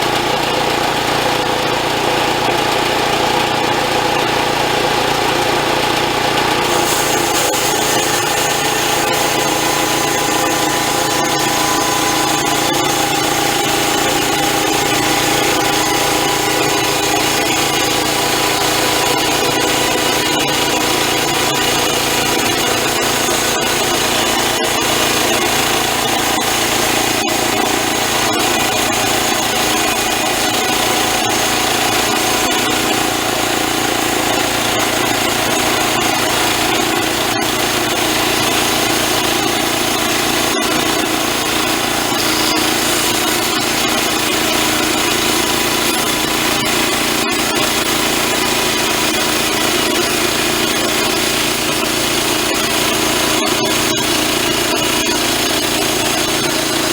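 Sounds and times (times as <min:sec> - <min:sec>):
machine drive running: 0:00.0 - 0:56.9
saw blade cutting log: 0:06.4 - 0:56.9.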